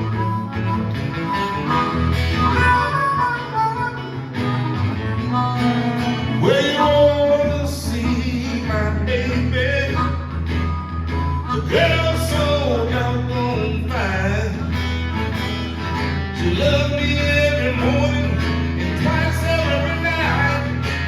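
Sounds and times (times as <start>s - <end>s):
acoustic guitar: 0.0s - 21.0s
harmonica: 0.0s - 21.0s.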